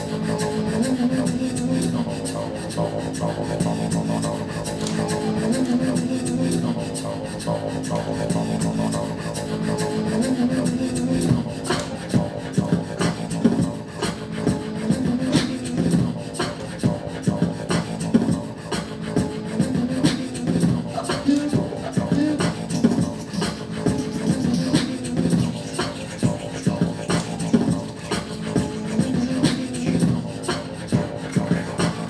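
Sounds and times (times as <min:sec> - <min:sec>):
beatboxing: 0:00.0 - 0:32.0.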